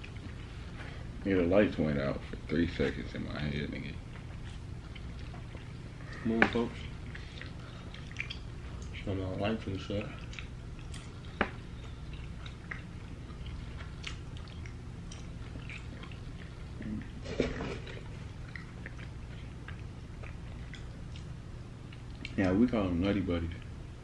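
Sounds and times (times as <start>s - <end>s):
chewing and mouth sounds: 0.0s - 1.2s, 2.2s - 22.6s
steady low hum: 0.0s - 24.0s.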